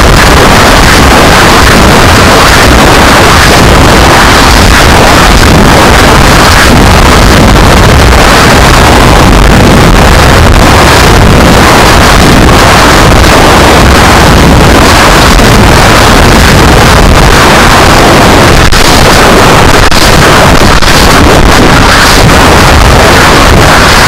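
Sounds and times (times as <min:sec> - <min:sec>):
wind noise on microphone: 0:00.0 - 0:24.0.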